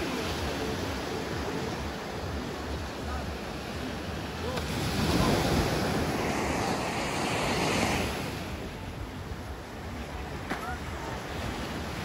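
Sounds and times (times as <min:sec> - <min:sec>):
surf washing onto beach: 0:00.0 - 0:12.0.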